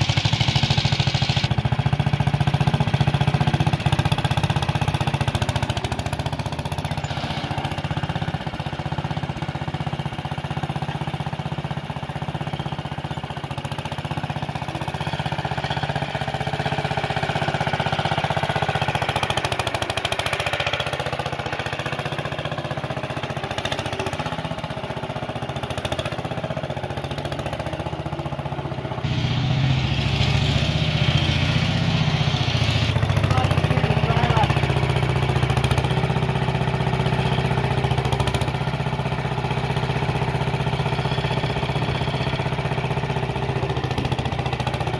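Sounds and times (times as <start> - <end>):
garden tractor engine running: 0.0 - 44.9.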